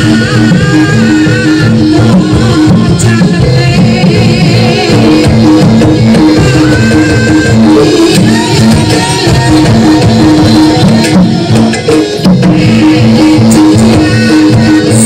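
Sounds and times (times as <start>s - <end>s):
drums: 0.0s - 15.0s
wavering melody line: 0.0s - 15.0s.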